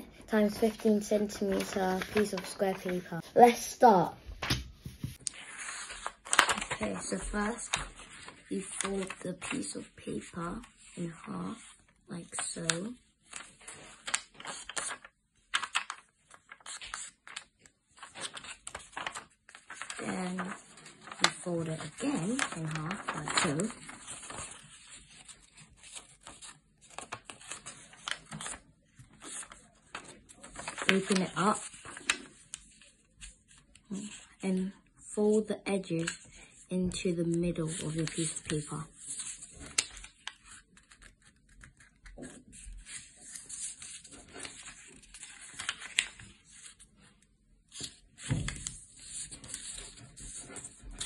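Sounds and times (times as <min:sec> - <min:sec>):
paper rustling and scraping: 0:00.4 - 0:11.8, 0:12.4 - 0:34.5, 0:37.3 - 0:51.0
crisp paper creasing strokes: 0:05.1 - 0:35.2, 0:37.5 - 0:47.2, 0:48.7 - 0:51.0.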